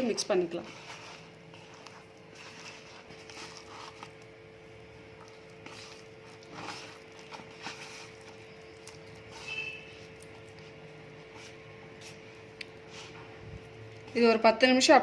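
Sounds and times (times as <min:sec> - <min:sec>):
chicken squishing in marinade: 0:00.0 - 0:14.1.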